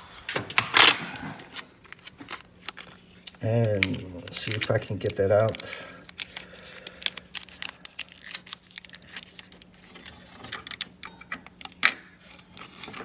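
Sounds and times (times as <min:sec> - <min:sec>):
faint steady hum: 0:00.0 - 0:13.0
clicks and rustles of handling: 0:00.2 - 0:13.0.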